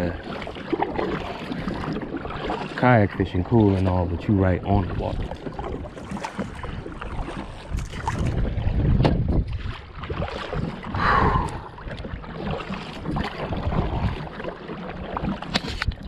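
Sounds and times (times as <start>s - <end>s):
kayak paddle splashing: 0.0s - 16.0s.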